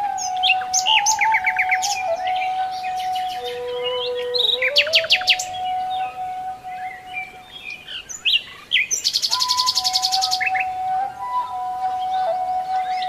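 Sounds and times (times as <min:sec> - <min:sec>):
bird trill: 0:00.0 - 0:13.0
reed flute held notes: 0:00.0 - 0:13.0
songbirds chirping: 0:00.0 - 0:13.0.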